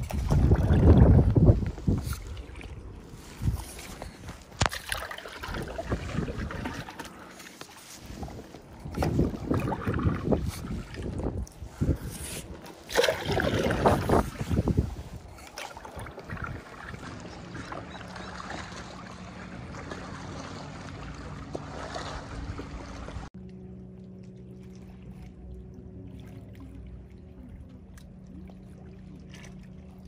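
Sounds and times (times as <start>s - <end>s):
paddle strokes splashing water: 0.0s - 23.4s, 24.2s - 30.0s
low hum: 0.0s - 30.0s.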